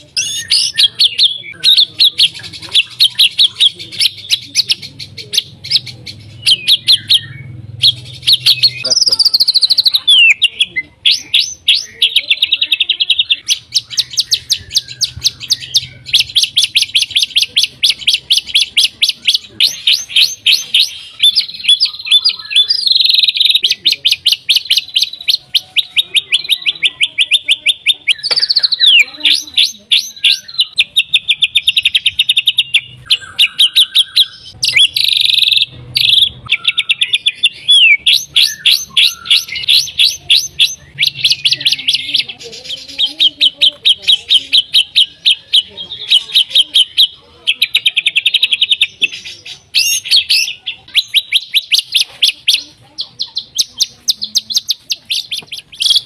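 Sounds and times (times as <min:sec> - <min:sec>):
songbird singing rapid notes: 0:00.0 - 0:56.0.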